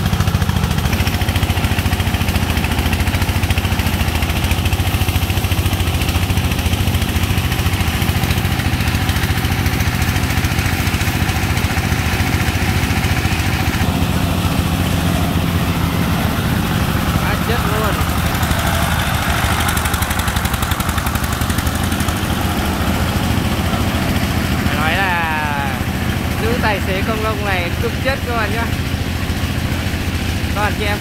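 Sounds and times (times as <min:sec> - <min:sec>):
engine running with fast beat: 0:00.0 - 0:31.0
farm truck diesel engine: 0:00.0 - 0:31.0.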